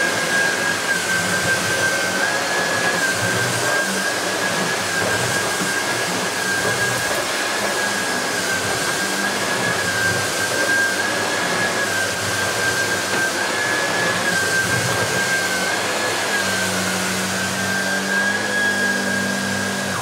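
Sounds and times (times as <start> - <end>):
vacuum cleaner running: 0.0 - 20.0
vacuum powerhead pushed over carpet: 0.0 - 20.0.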